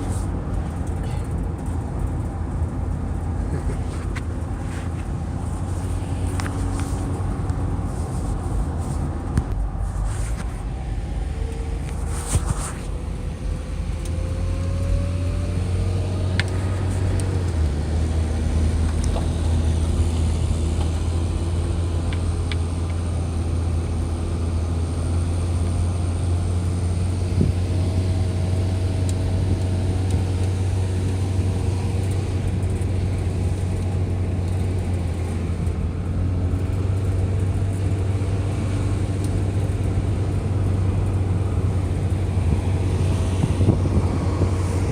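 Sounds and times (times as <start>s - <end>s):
engine droning: 0.0s - 44.9s.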